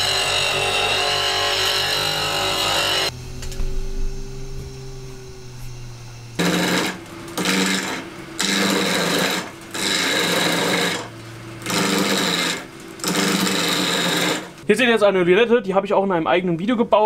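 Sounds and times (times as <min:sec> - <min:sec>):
gouge cutting spinning wood: 0:00.0 - 0:14.6
wood lathe motor humming: 0:00.0 - 0:14.7.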